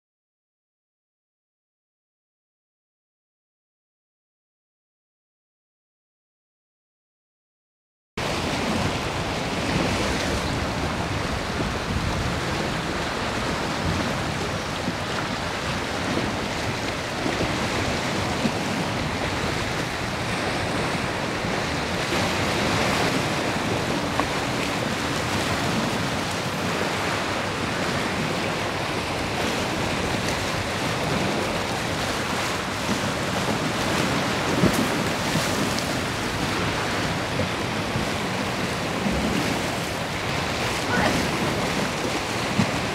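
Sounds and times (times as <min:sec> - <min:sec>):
choppy sea water washing: 0:08.2 - 0:42.9
wind rumbling on microphone: 0:08.2 - 0:42.9.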